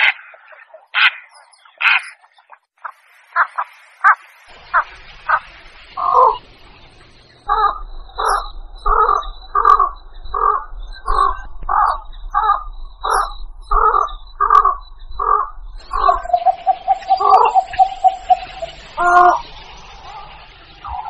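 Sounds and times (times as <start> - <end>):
harsh croaking calls: 0.0 - 21.0.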